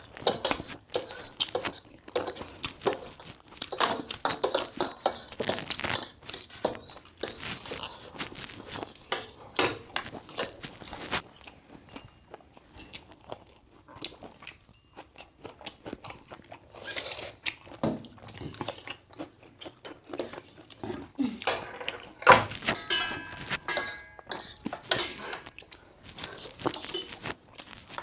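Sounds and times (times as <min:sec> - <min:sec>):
chewing and biting food: 0:00.0 - 0:21.2, 0:24.6 - 0:28.0.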